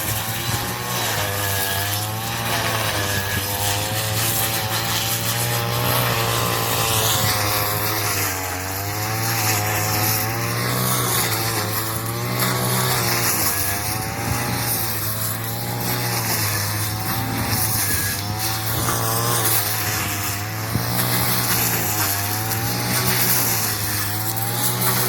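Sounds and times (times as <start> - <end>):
cutting machine motor running: 0.0 - 25.0.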